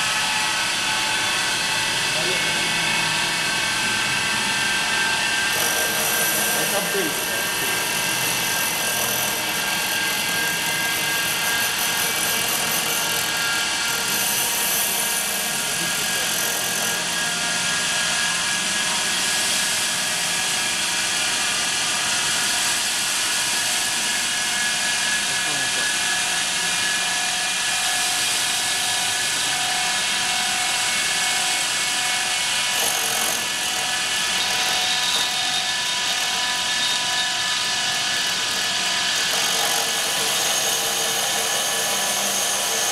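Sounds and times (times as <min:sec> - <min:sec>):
cutting machine whine: 0:00.0 - 0:42.9.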